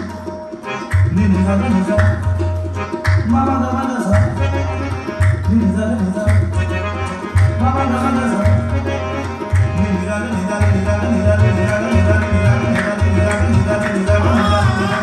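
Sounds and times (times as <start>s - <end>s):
sustained harmonium notes: 0.0s - 15.0s.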